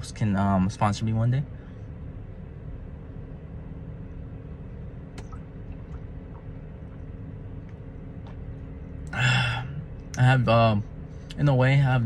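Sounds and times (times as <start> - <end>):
faint hum: 0.0 - 12.0
low mechanical rumble: 0.0 - 12.0.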